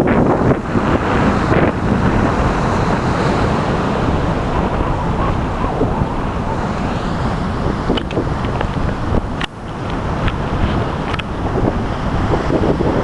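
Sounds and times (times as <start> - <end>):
surf washing on beach: 0.0 - 13.0
wind blowing across microphone: 0.0 - 13.0.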